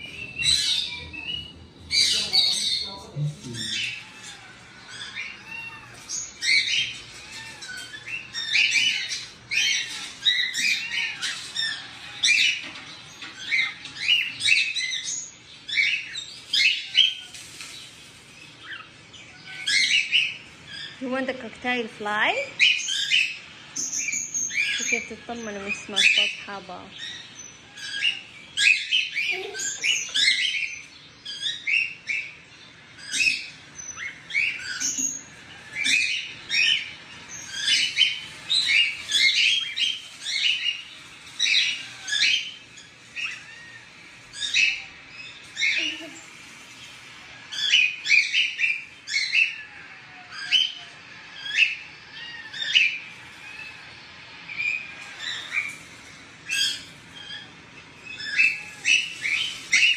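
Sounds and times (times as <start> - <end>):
cockatiels chirping: 0.0 - 59.9.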